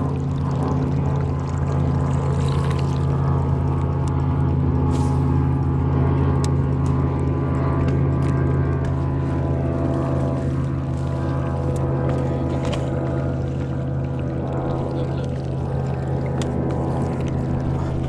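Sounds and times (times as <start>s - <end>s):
boat motor running: 0.0s - 18.0s.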